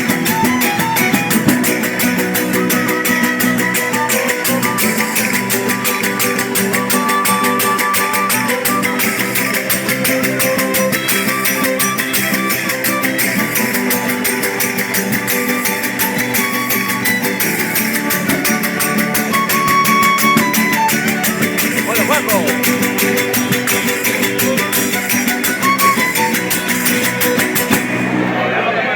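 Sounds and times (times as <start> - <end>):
hand percussion beat: 0.0 - 28.2
strummed guitars: 0.0 - 28.9.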